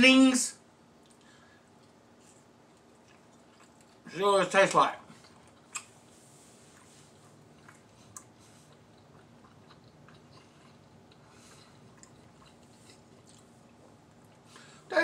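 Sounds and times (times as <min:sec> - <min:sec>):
person chewing food: 0:00.9 - 0:04.1, 0:05.0 - 0:14.9.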